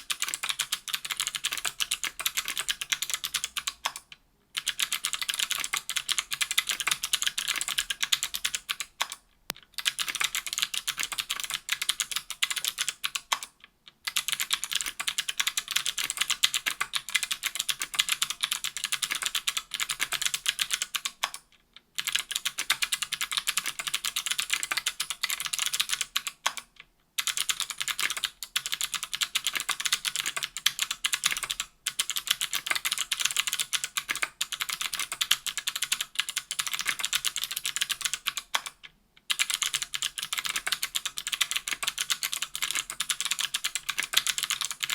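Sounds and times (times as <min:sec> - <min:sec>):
fast clicky keyboard typing: 0:00.0 - 0:09.2, 0:09.8 - 0:21.4, 0:22.0 - 0:44.9.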